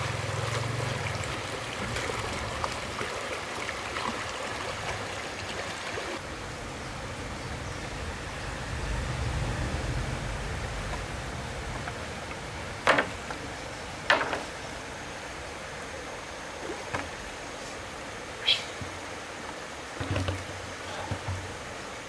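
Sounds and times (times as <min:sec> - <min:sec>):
stream water trickling: 0:00.0 - 0:22.0.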